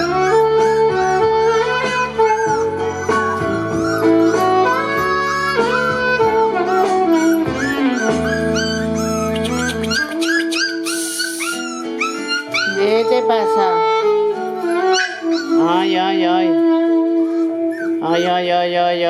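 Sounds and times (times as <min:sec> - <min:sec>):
puppies yipping and whimpering: 0:00.0 - 0:16.3, 0:17.0 - 0:18.6
background music: 0:00.0 - 0:19.0.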